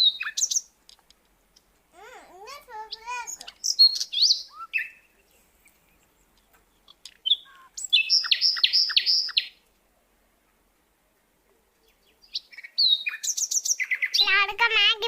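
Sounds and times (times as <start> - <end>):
small bird chirping: 0.0 - 9.8, 10.7 - 14.5.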